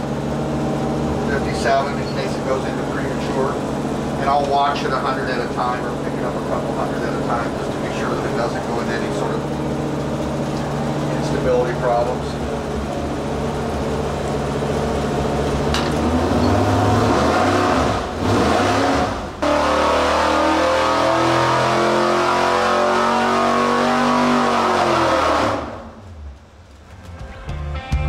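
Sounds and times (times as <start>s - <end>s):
v eight engine revving: 0.0s - 27.1s.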